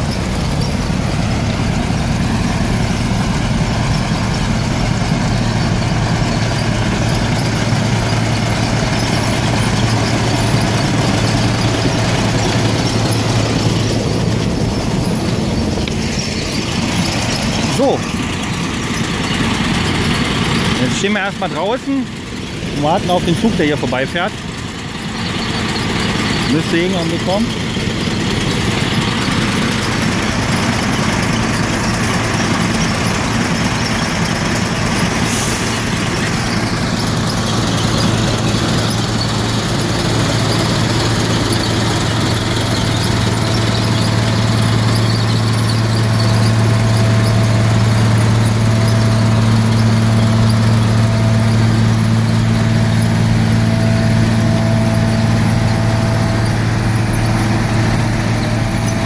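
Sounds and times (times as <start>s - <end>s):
deep engine hum: 0.0s - 59.0s
high squeal: 0.0s - 59.0s.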